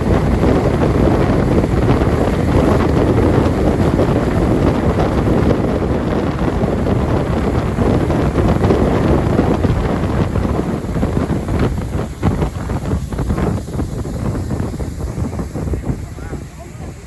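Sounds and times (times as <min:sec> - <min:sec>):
boat engine: 0:00.0 - 0:17.0
water rushing past hull: 0:00.0 - 0:17.0
wind buffeting microphone: 0:00.0 - 0:17.0.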